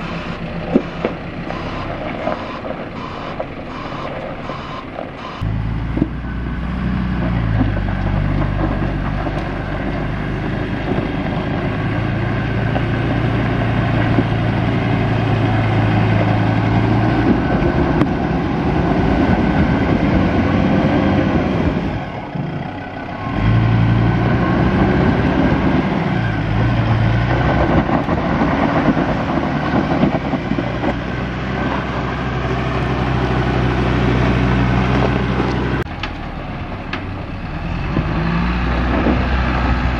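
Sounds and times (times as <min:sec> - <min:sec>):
engine working under load: 0:00.0 - 0:39.9.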